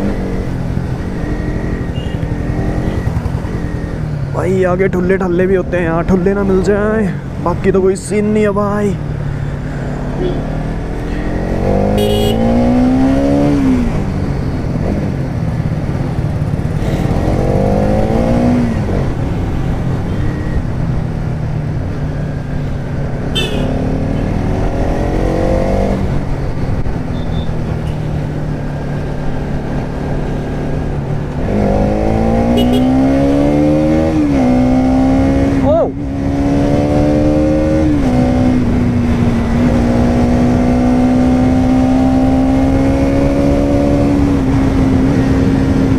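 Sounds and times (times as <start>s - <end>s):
motorcycle engine revving: 0.0s - 6.9s, 9.2s - 21.6s, 23.3s - 45.9s.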